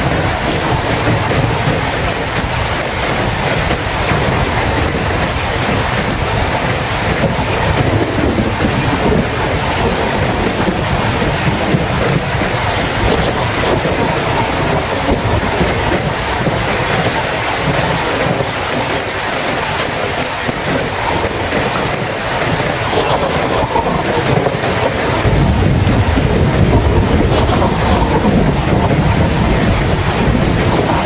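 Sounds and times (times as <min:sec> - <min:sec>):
rumble of thunder: 0:00.0 - 0:18.6, 0:20.6 - 0:31.0
steady rain: 0:00.0 - 0:31.0.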